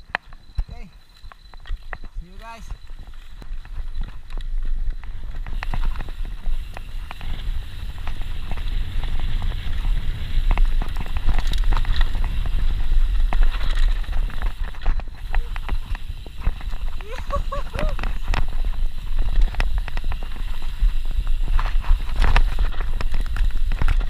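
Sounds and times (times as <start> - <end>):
bike clicks and rattles: 0.0 - 24.0
wind rumble on microphone: 0.0 - 24.0.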